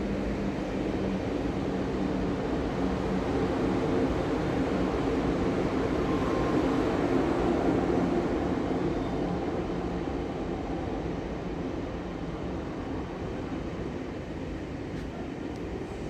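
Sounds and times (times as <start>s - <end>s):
station machinery drone: 0.0s - 16.0s.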